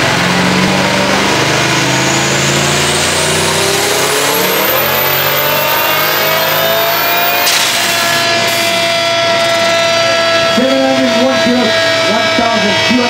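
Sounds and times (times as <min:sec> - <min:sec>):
engine revving: 0:00.0 - 0:13.0
high turbo whine: 0:00.0 - 0:13.0
sudden burst of noise: 0:00.0 - 0:13.0.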